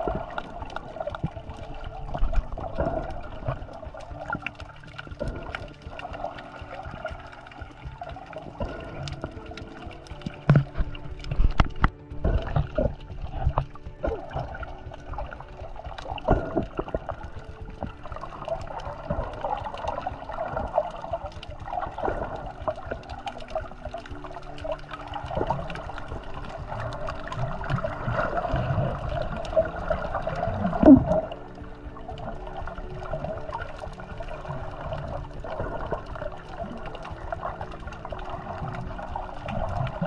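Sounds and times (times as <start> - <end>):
muffled underwater gurgling: 0.0 - 40.0.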